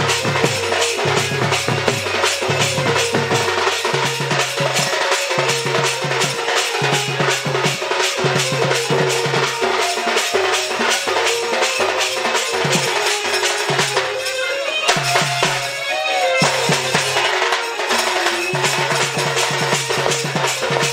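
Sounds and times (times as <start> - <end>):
fast dense drumming: 0.0 - 14.3, 16.4 - 20.9
held melody line: 0.0 - 20.9.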